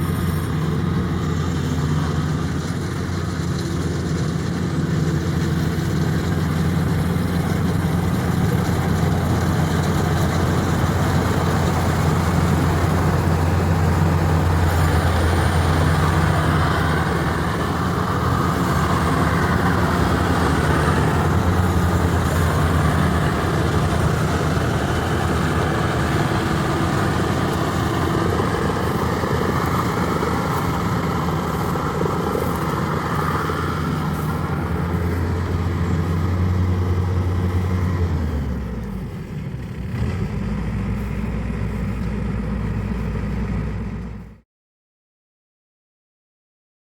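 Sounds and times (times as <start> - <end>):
combine harvester engine running: 0.0 - 44.4.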